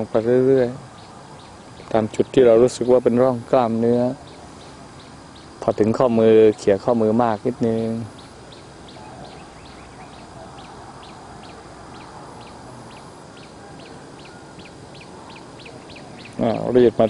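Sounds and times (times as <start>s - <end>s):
bird chirping: 0.0s - 17.0s
faint background noise: 0.0s - 17.0s.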